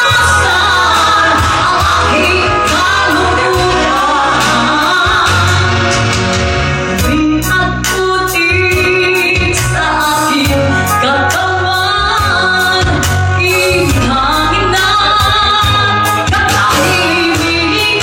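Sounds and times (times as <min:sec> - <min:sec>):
woman singing into a microphone: 0:00.0 - 0:06.1, 0:07.0 - 0:18.0
karaoke backing track with drum beat: 0:00.0 - 0:18.0.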